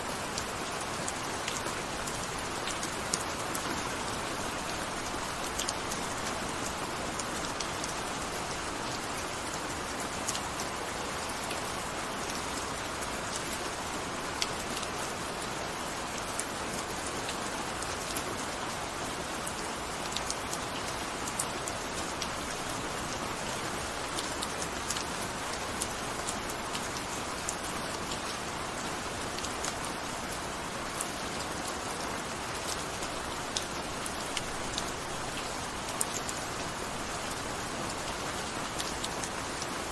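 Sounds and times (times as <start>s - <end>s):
gentle rain hiss: 0.0s - 39.9s
raindrops striking a surface: 0.1s - 39.9s.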